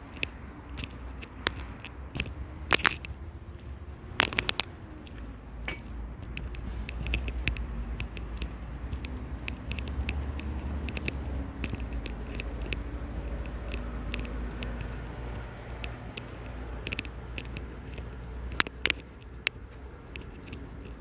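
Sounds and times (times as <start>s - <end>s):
light irregular ticks: 0.0s - 21.0s.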